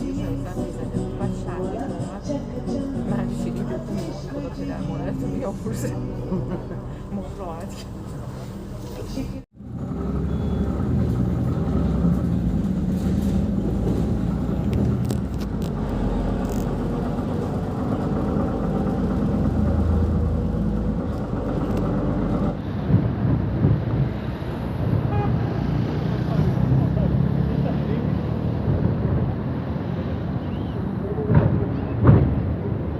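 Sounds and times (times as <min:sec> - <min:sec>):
street traffic din: 0:00.0 - 0:32.9.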